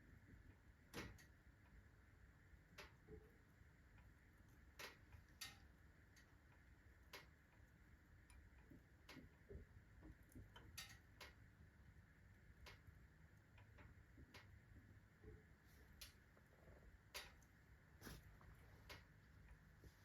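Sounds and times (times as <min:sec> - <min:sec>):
iron stove ticking and clicking: 0:00.0 - 0:19.8.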